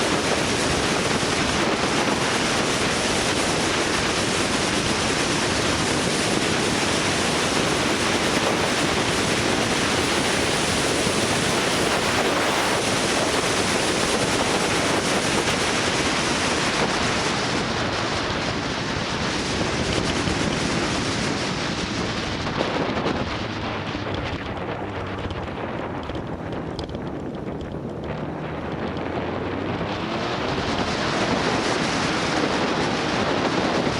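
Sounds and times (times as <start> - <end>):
motorbike road noise: 0.0 - 33.9
wind rushing over microphone: 0.0 - 33.9.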